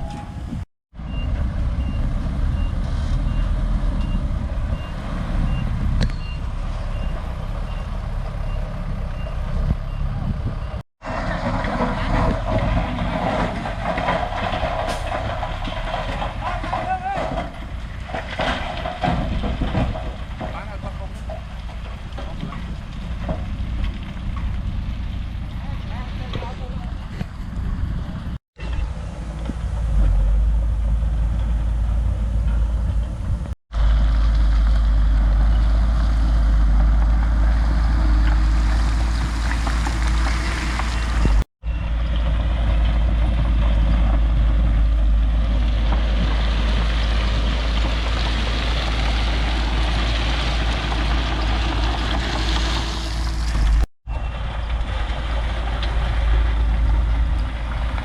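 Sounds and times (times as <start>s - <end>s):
diesel construction machinery rumbling: 0.0s - 58.0s.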